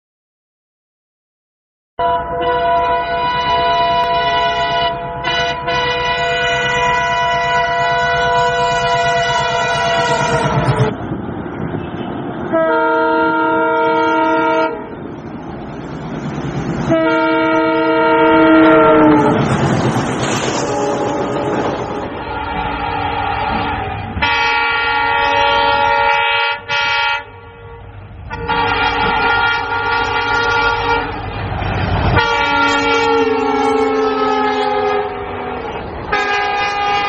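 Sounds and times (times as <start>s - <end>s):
train horn blasts: 2.0s - 11.0s, 12.4s - 15.0s, 16.9s - 19.5s, 20.5s - 31.3s, 32.1s - 37.0s
train rumbling and clattering: 2.5s - 37.0s.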